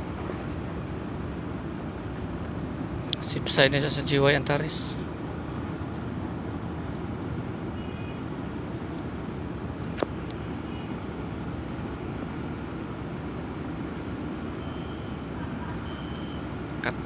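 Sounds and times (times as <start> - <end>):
ship diesel engines rumbling: 0.0 - 17.0.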